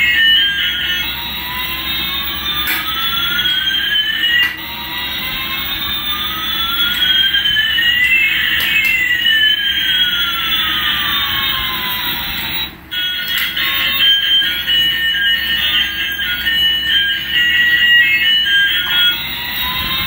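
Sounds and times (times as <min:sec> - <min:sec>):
toy synthetic jet whine: 0:00.0 - 0:20.0.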